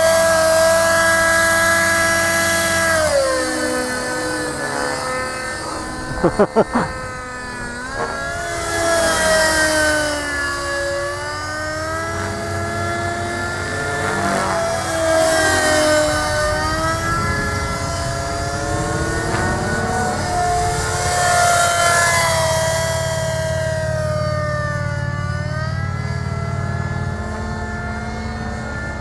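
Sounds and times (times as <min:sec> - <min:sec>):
model helicopter motor and rotor whine: 0:00.0 - 0:29.0.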